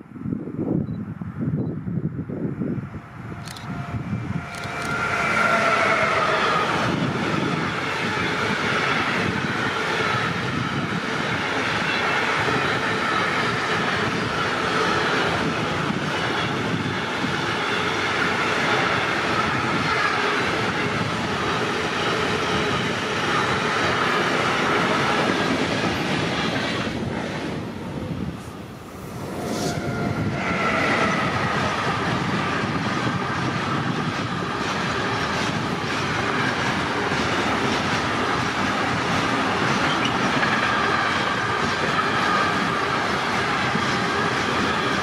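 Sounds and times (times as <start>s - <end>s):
train wheels rumbling on rails: 0.3s - 45.0s.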